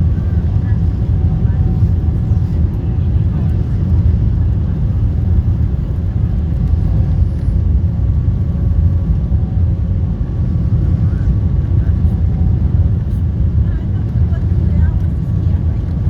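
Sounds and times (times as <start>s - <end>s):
aircraft low rumble: 0.0s - 16.0s.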